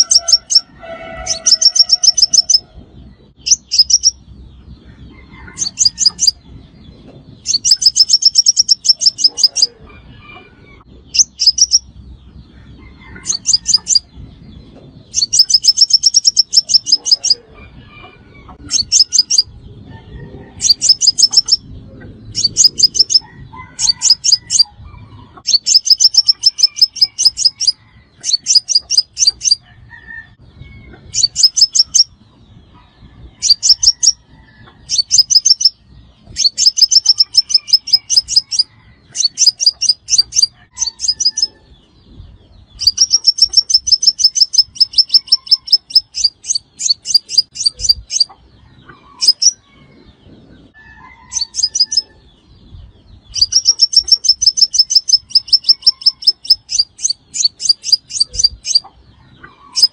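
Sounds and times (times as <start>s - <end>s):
bird calling in rapid bursts: 0.0s - 42.0s, 42.6s - 50.2s, 51.0s - 52.3s, 53.1s - 59.9s.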